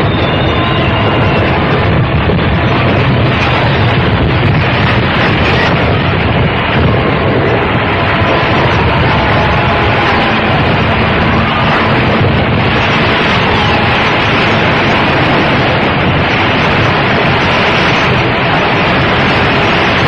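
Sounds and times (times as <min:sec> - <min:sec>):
ship hull sliding down slipway: 0:00.0 - 0:20.0.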